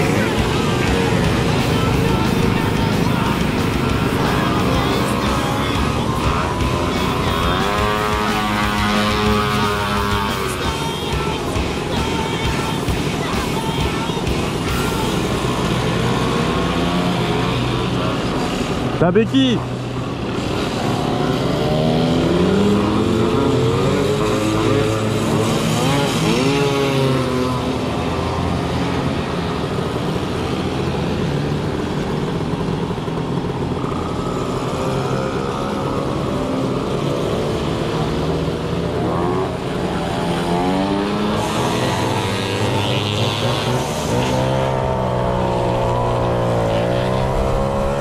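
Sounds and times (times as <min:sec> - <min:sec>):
moped engines accelerating: 0:00.0 - 0:48.0.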